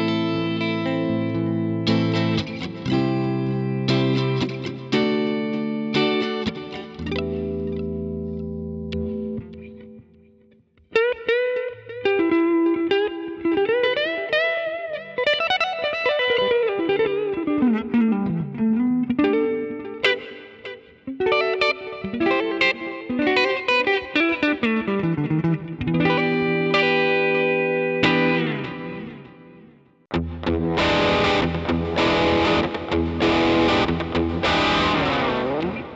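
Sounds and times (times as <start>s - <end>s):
electric guitar lead melody: 0.0s - 35.9s.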